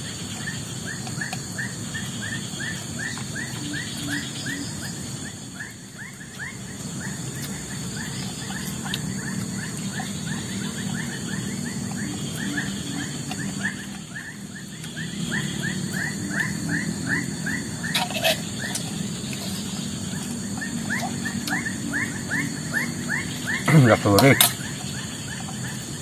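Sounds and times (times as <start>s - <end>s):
animal chirping: 0.0s - 26.0s
steady high hum: 0.0s - 26.0s.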